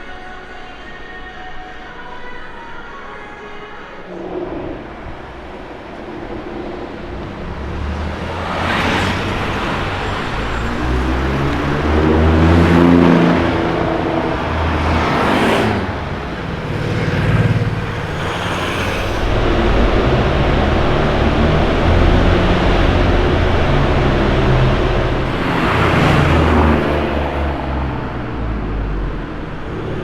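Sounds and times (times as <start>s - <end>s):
car engine accelerating: 4.1s - 30.0s
cars passing by: 4.1s - 30.0s.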